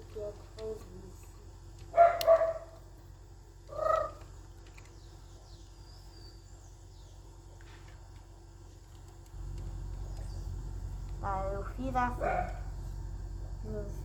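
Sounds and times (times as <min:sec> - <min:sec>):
quiet steady hum: 0:00.0 - 0:14.0.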